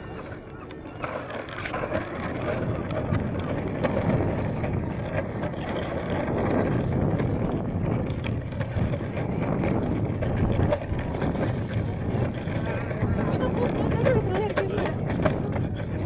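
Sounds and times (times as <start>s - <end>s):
longboard wheels rolling on pavement: 0.0s - 16.0s.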